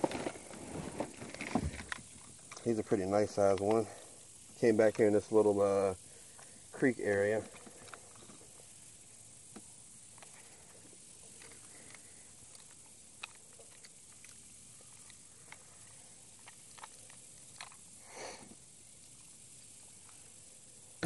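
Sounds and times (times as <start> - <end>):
low steady hiss: 0.0 - 21.0.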